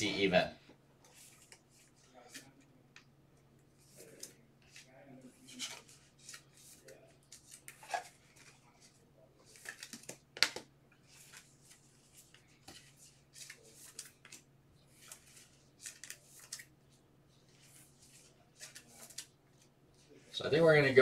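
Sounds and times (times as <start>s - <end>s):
rustles of hands handling things: 1.0s - 3.0s, 3.6s - 21.0s.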